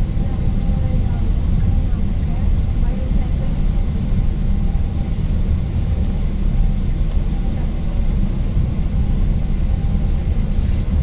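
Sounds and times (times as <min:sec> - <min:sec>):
train rumble from inside: 0:00.0 - 0:11.0.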